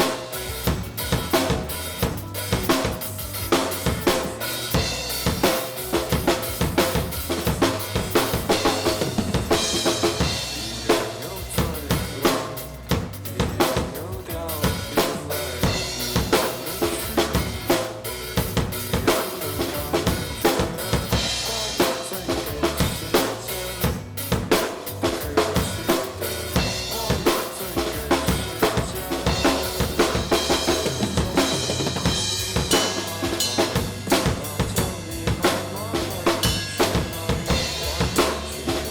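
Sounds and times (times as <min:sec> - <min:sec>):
drum kit rock beat: 0:00.0 - 0:38.9
rock band backing track: 0:00.0 - 0:38.9.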